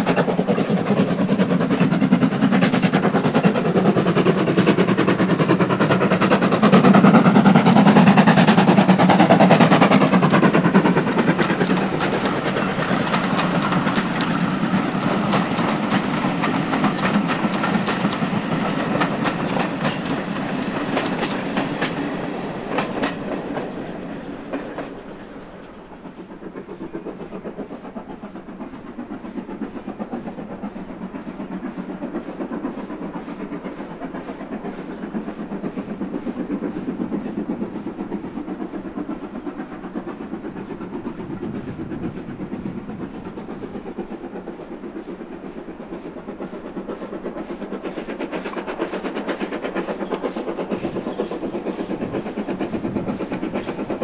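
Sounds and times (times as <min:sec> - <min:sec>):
steam locomotive chuffing: 0:00.0 - 0:54.0
train wheels clicking over rail joints: 0:00.0 - 0:54.0.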